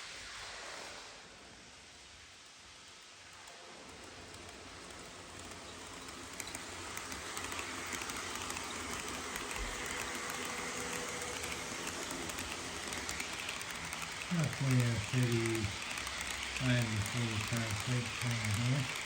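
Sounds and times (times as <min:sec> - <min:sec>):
model train running: 0:00.0 - 0:19.0.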